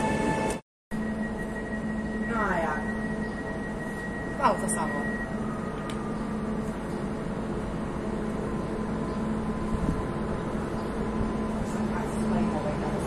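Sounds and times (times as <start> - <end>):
train mechanical hum: 0.0 - 13.0
faint held tones: 0.9 - 12.0.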